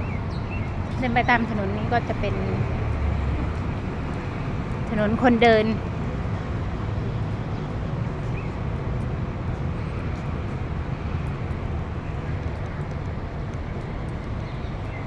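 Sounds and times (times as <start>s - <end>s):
distant traffic noise: 0.0s - 15.0s.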